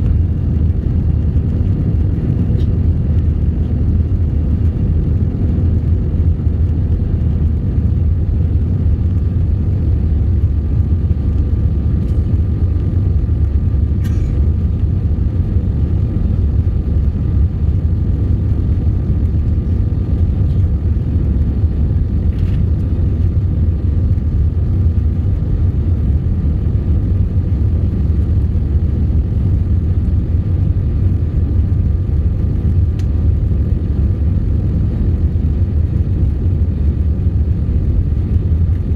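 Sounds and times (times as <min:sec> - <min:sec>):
faint steady whine: 0:00.0 - 0:38.9
jet engine and airflow rumble: 0:00.0 - 0:38.9.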